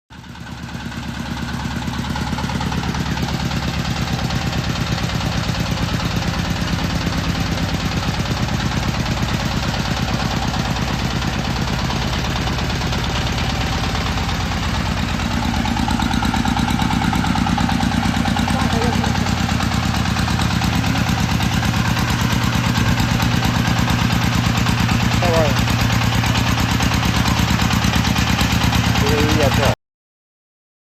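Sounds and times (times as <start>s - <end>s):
small tractor engine running: 0.1s - 29.8s.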